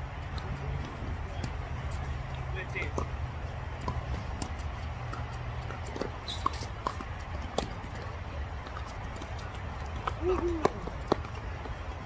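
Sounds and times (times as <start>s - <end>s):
footsteps on court: 0.1s - 12.0s.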